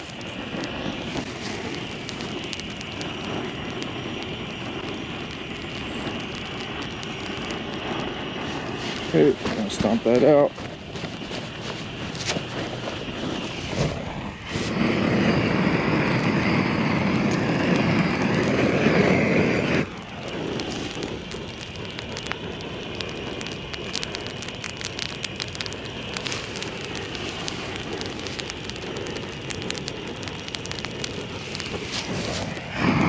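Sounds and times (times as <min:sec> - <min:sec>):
dry grass crackling as it burns: 0:00.0 - 0:33.0
gas torch flame rushing: 0:00.0 - 0:33.0.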